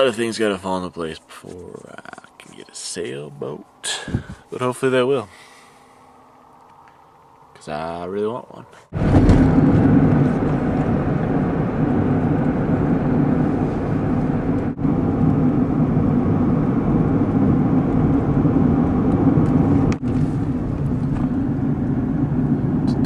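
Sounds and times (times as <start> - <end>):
van engine and road noise: 0.0 - 23.0.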